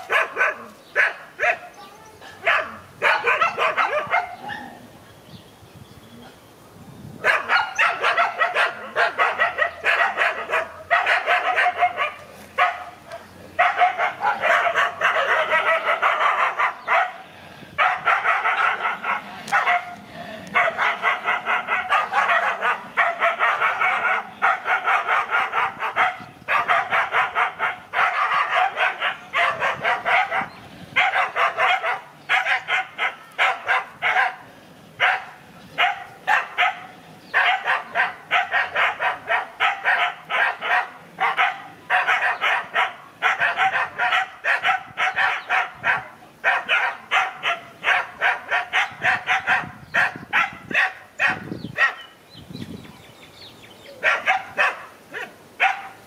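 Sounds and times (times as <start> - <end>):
dogs barking: 0.0 - 4.8, 7.2 - 52.2, 53.9 - 56.0.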